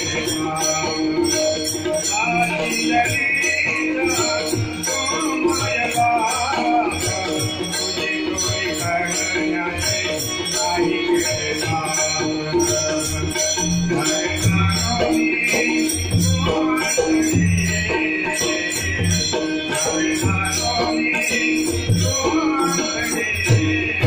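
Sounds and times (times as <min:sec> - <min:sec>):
jingling hand percussion: 0:00.0 - 0:24.0.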